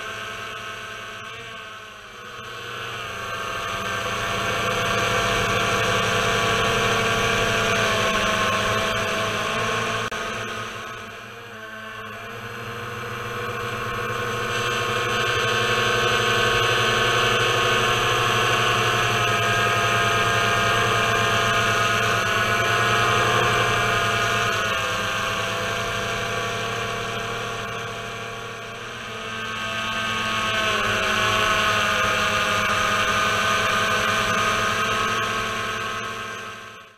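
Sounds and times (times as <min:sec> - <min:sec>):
drone motors whining: 0:00.0 - 0:36.9.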